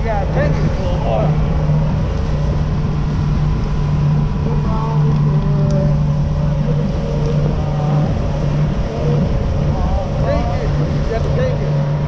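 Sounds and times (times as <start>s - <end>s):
motorboat engine humming: 0.0s - 12.0s
rumble of wind and water: 0.0s - 12.0s.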